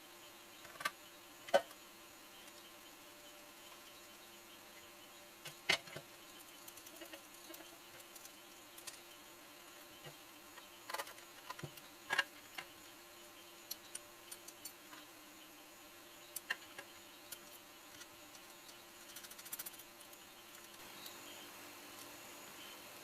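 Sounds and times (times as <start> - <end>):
faint steady buzz: 0.0 - 23.0.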